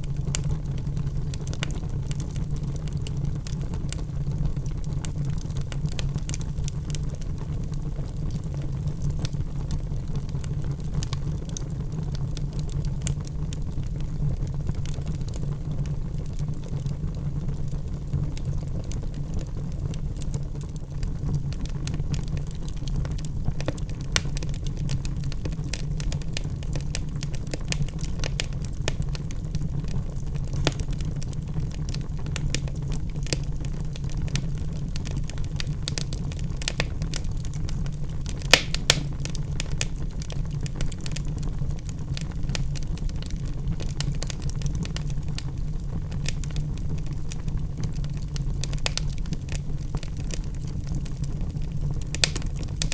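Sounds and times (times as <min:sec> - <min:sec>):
fire crackles and pops: 0:00.0 - 0:52.9
logs burning in fireplace: 0:00.0 - 0:52.9.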